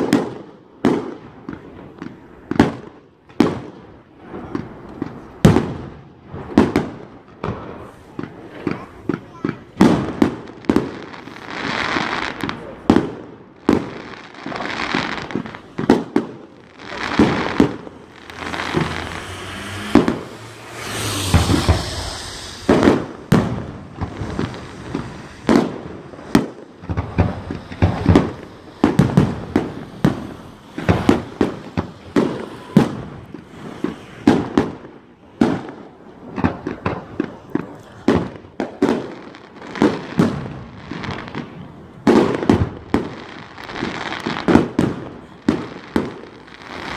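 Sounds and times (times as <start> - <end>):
fireworks bangs and pops: 0.0 - 46.9
fireworks hissing: 6.3 - 46.9.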